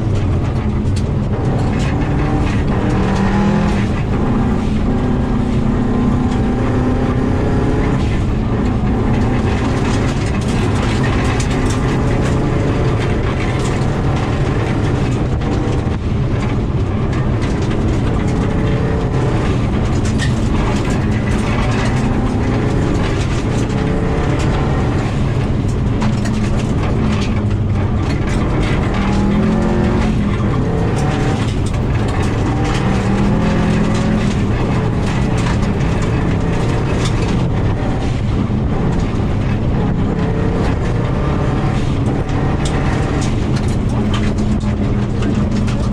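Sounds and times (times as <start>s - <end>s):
rally car engine revving: 0.0s - 45.9s
stones hitting car: 0.0s - 45.9s
tyres on gravel: 0.0s - 45.9s.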